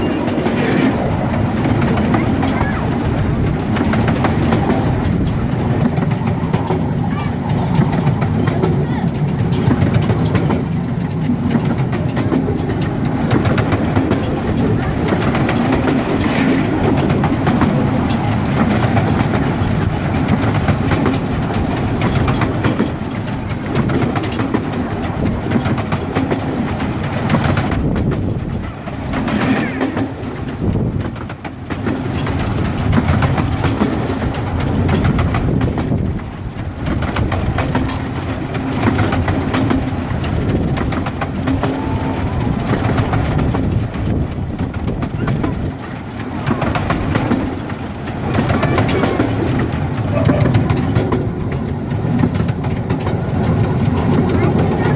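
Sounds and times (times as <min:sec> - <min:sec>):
train wheels rumbling: 0:00.0 - 0:54.9.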